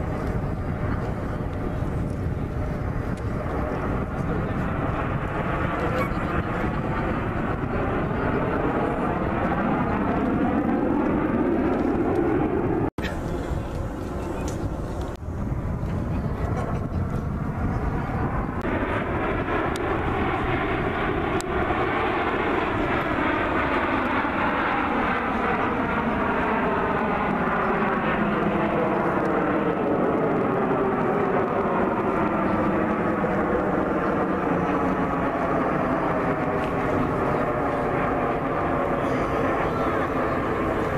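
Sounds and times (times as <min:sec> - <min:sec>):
jet engines droning overhead: 0:00.0 - 0:40.9.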